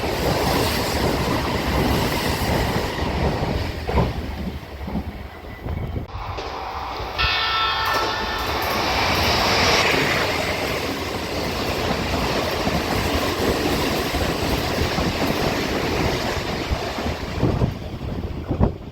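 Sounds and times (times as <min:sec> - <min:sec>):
electric train running on rails: 0:00.0 - 0:18.9.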